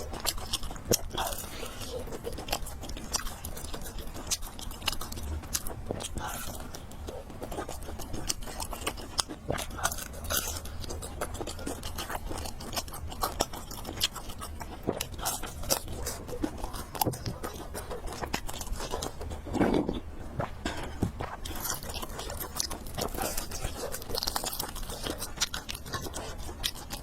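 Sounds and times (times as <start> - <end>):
chewing with wet smacks: 0.0 - 27.0
food crunching: 0.0 - 27.0
low steady hum: 0.0 - 27.0.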